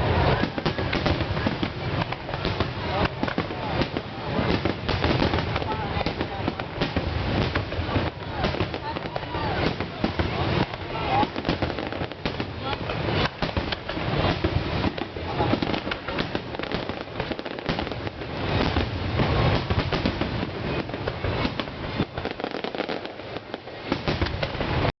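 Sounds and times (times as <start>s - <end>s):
fireworks booming and crackling: 0.0s - 25.0s.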